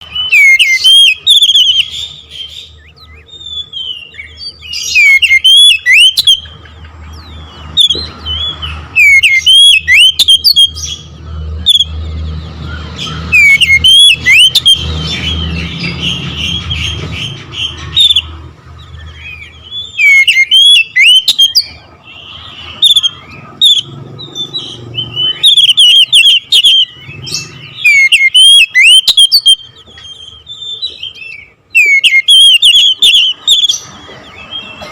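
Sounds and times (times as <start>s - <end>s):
magpie-robin singing whistled phrases: 0.0s - 6.6s, 7.2s - 12.1s, 12.7s - 34.8s.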